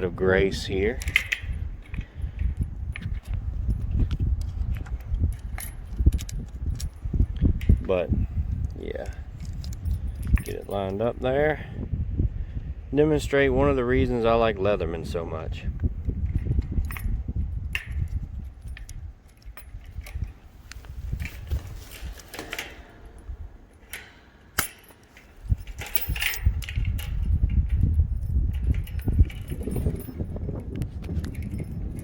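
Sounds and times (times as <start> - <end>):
metal chain clinking: 0.8 - 11.2, 16.2 - 32.0.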